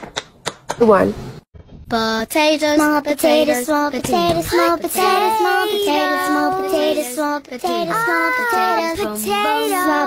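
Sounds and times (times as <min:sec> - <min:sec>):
high child-like singing voice: 0:01.9 - 0:10.0.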